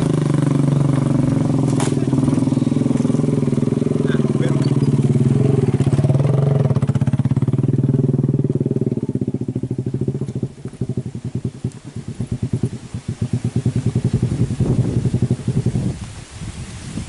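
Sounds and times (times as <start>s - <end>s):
truck diesel engine labouring: 0.0s - 15.7s.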